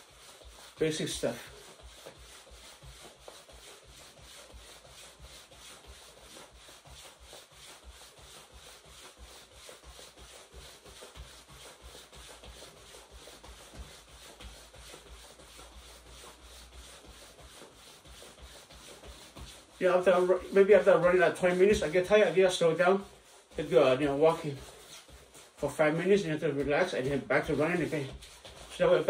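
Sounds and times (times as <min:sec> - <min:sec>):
footfalls of person jogging: 0:00.0 - 0:29.0
jacket swishing: 0:00.0 - 0:29.0.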